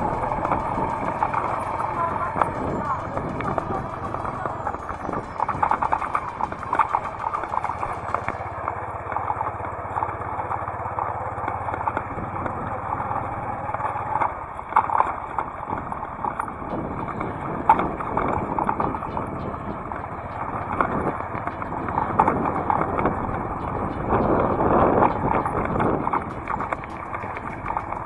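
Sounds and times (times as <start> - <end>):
motorcycle engine hum: 0.0 - 28.0.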